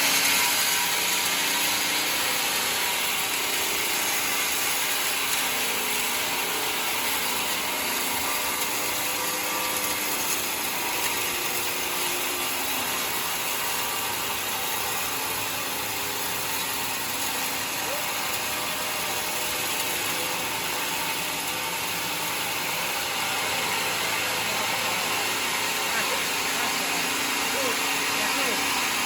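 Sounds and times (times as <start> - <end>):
sawmill blade sawing wood: 0.0 - 29.0.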